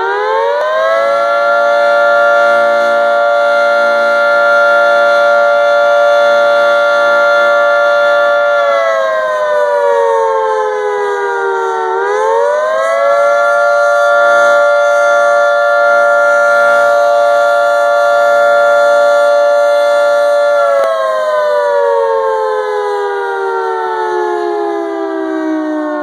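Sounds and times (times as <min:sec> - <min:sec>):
tornado siren: 0:00.0 - 0:26.0.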